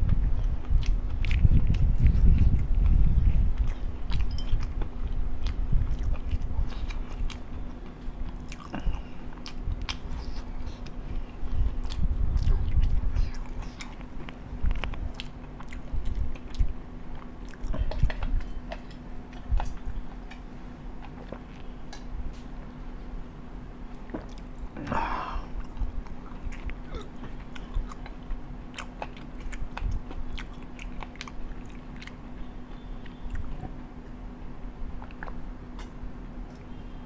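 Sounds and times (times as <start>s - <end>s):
person chewing: 0.0s - 22.4s, 23.9s - 33.8s, 34.9s - 36.7s
faint steady hum: 0.0s - 37.0s.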